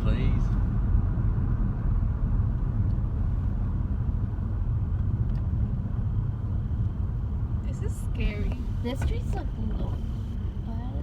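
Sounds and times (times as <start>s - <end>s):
car cabin low rumble: 0.0s - 11.0s.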